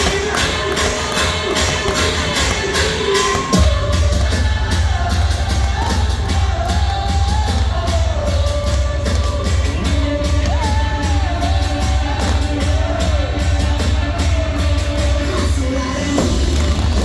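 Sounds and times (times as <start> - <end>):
pop song with singing: 0.0 - 17.0.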